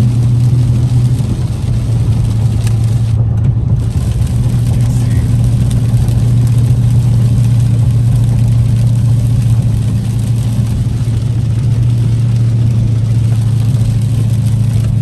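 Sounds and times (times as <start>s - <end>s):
car engine humming: 0.0s - 15.0s
road rumble: 0.0s - 15.0s.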